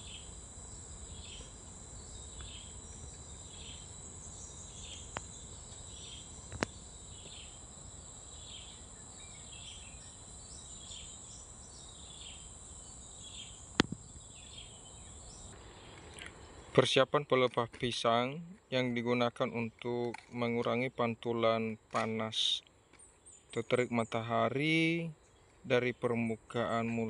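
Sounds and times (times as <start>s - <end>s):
insect chirp: 0.0s - 27.0s
insects droning: 0.0s - 27.0s.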